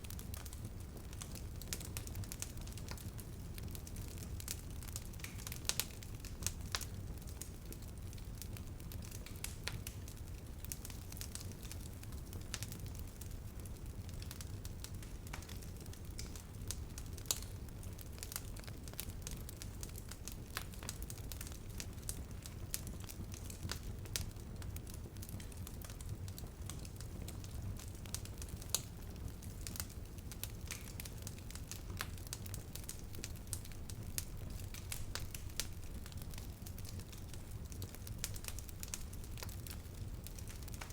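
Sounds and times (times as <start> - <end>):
flames rumbling: 0.0 - 40.9
wood crackling and popping: 0.0 - 40.9.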